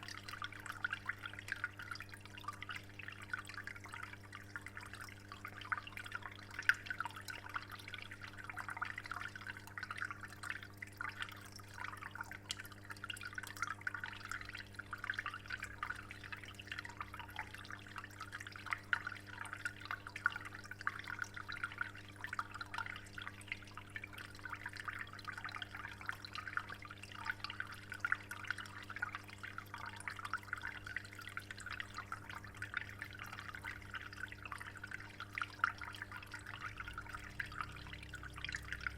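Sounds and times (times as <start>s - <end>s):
water dripping into aquarium: 0.0s - 38.9s.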